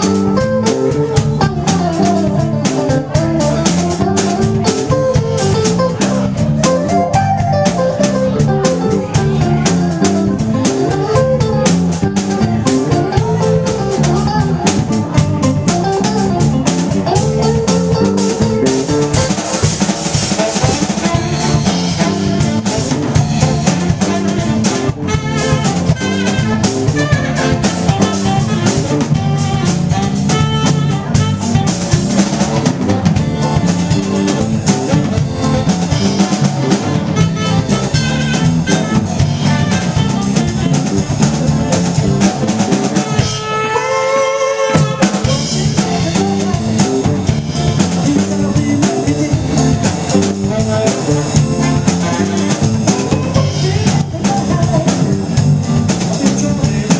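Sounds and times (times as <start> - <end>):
drum hits: 0.0 - 43.6, 44.8 - 56.9
electric guitar: 0.0 - 56.9
live rock band: 0.0 - 56.9.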